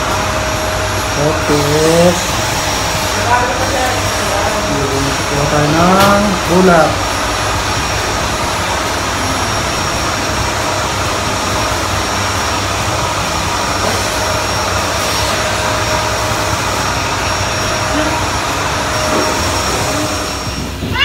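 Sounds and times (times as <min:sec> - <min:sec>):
electric air blower running: 0:00.0 - 0:21.0.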